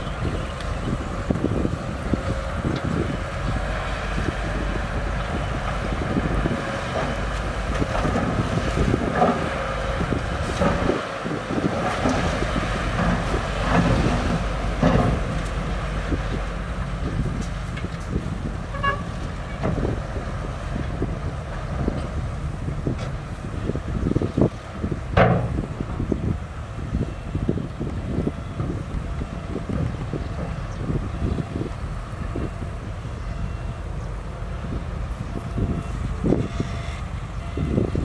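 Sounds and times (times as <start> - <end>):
heavy machinery engine rumble: 0.0 - 38.0.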